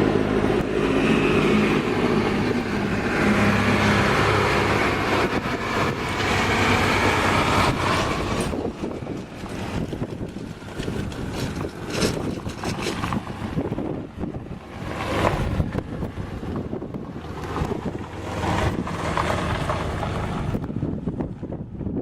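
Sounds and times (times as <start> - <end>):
helicopter engines and rotor: 0.0 - 21.1
gusty wind on microphone: 0.0 - 22.0.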